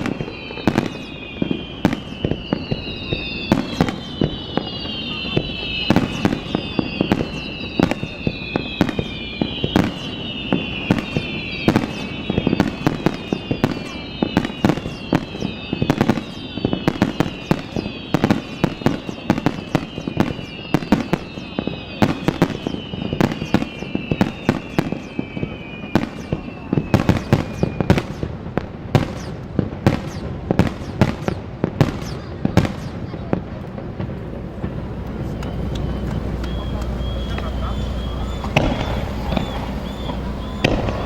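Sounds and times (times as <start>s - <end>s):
falling firework whistles: 0.0s - 41.0s
fireworks bursting and booming: 0.0s - 41.0s.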